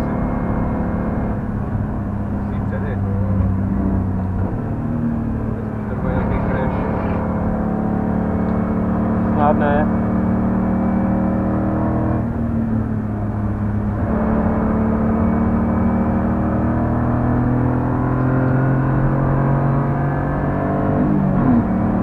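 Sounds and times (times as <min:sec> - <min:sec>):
car engine at speed from cabin: 0:00.0 - 0:22.0.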